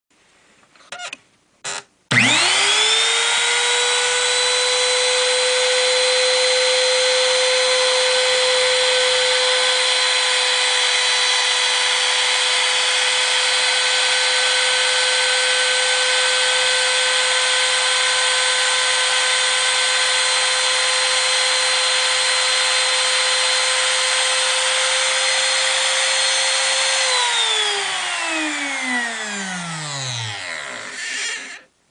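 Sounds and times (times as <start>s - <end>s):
router high whine: 1.0s - 31.7s.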